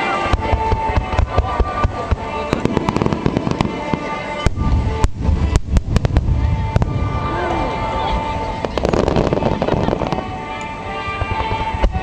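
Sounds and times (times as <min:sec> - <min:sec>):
fireworks crackling: 0:00.0 - 0:12.0
fireworks heavy bangs: 0:00.0 - 0:12.0
music over loudspeakers: 0:00.0 - 0:12.0.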